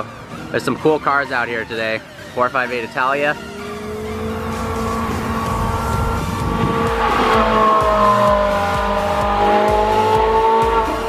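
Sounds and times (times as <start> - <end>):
background music with beat: 0.0 - 11.0
race car engine: 0.0 - 11.0.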